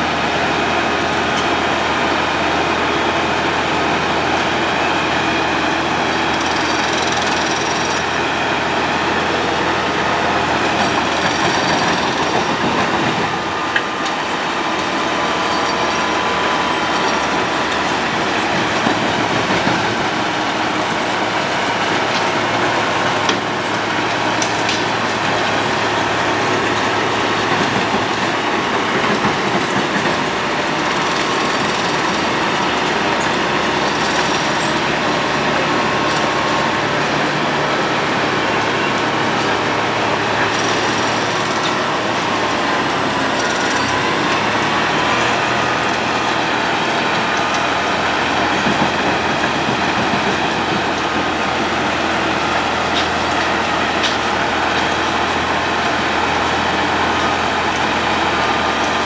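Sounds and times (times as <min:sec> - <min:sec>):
diesel engine hum: 0:00.0 - 0:59.0
road planer grinding asphalt: 0:00.0 - 0:59.0.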